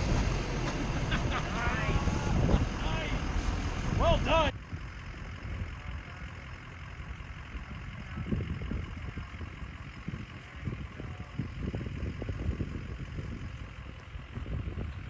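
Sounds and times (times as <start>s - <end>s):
diesel engine running low: 0.0s - 15.0s.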